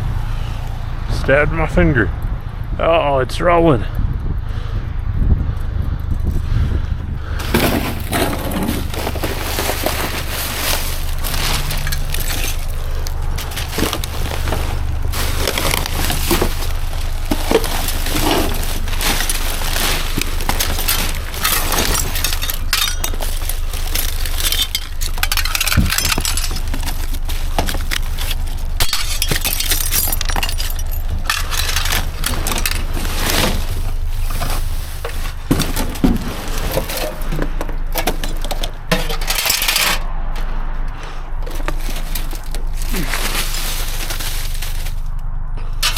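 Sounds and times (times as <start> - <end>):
steady low hum: 0.0 - 45.9
debris clinking and clattering: 7.4 - 40.6, 41.3 - 45.9.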